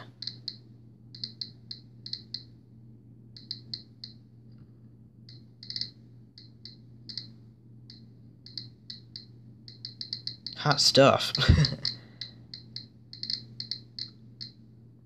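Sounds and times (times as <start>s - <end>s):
geiger counter clicking: 0.0s - 2.6s, 3.3s - 4.2s, 5.2s - 14.6s.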